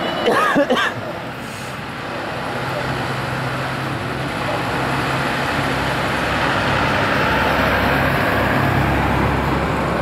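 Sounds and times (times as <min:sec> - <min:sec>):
bus pulling away: 0:00.0 - 0:10.0
motorbike engines passing: 0:01.0 - 0:10.0.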